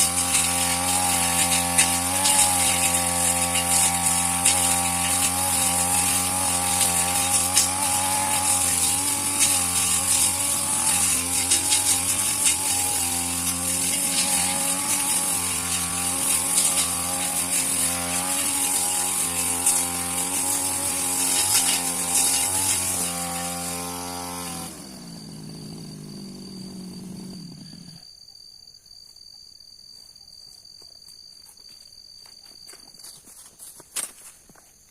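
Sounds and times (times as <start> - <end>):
small petrol engine running: 0.0 - 28.0.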